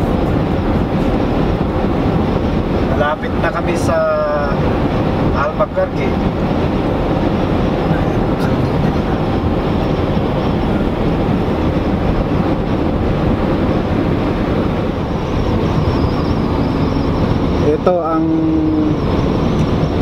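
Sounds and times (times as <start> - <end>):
car cabin road noise: 0.0 - 20.0.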